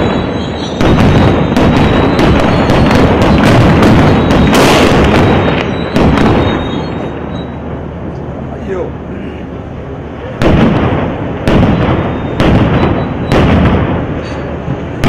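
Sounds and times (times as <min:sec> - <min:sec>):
loud explosion blasts: 0:00.0 - 0:07.9, 0:10.4 - 0:15.0.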